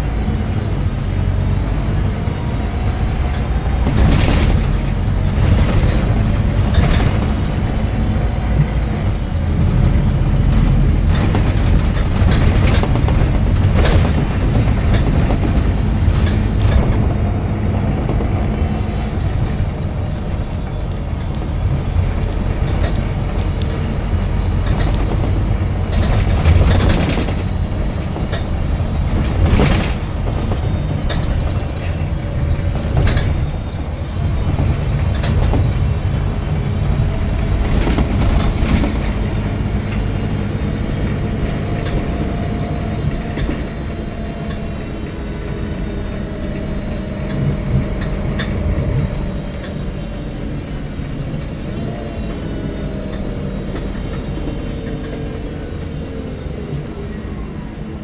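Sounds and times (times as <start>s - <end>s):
bus cabin noise: 0.0s - 58.0s
bus diesel engine hum: 0.0s - 58.0s.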